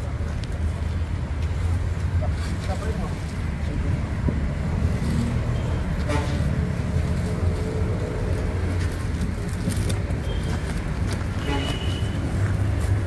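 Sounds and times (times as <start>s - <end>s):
crane diesel engine rumbling: 0.0s - 13.0s.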